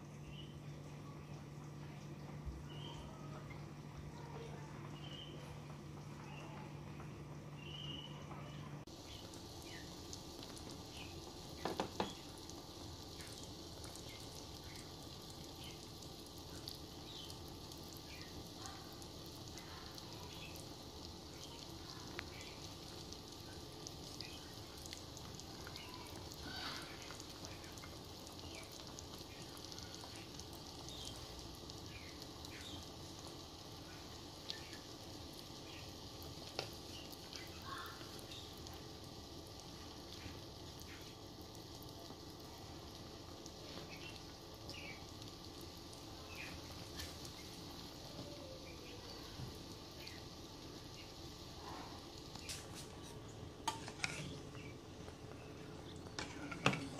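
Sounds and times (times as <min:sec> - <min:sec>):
pot of sauce simmering: 0:08.8 - 0:56.9.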